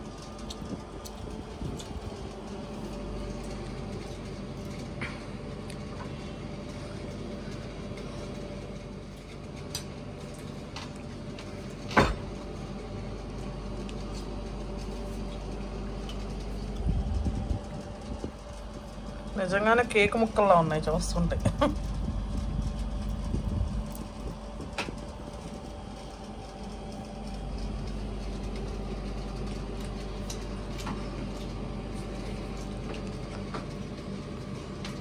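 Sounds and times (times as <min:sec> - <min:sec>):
low background hum: 0:00.0 - 0:35.0
low rumbling: 0:00.0 - 0:35.0.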